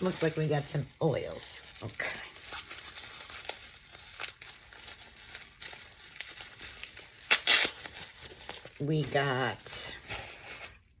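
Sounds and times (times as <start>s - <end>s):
packaging crinkling: 0.0s - 10.8s.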